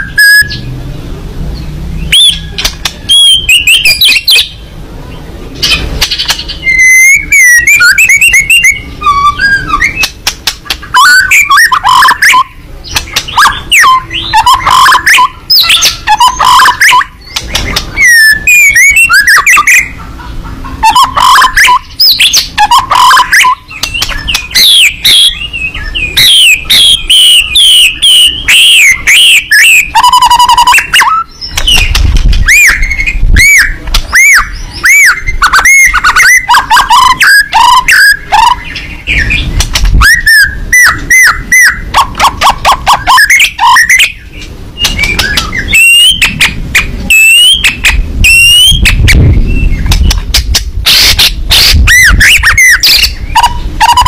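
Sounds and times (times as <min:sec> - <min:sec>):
songbird whistling song: 0:00.0 - 0:00.8, 0:01.6 - 0:54.0.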